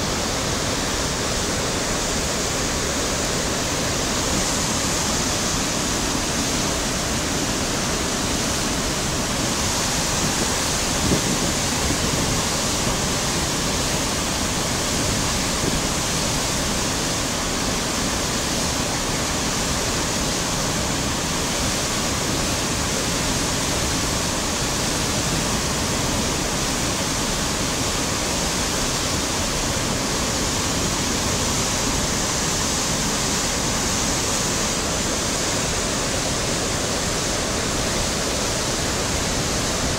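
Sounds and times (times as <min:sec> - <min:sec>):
water cascading and splashing: 0:00.0 - 0:39.9.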